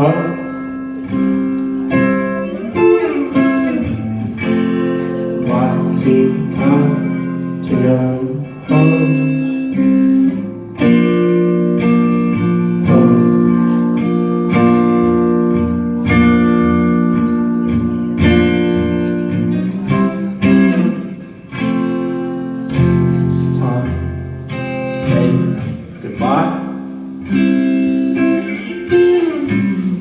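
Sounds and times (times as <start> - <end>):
guitar chords ringing: 0.0 - 30.0.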